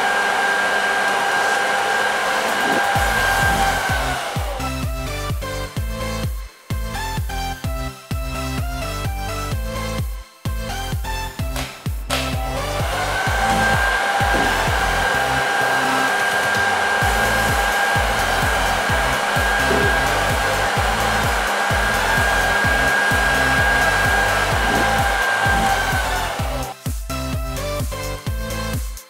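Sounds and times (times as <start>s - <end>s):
hair dryer running: 0.0s - 6.4s, 10.7s - 28.9s
electronic music with beat: 2.5s - 29.0s.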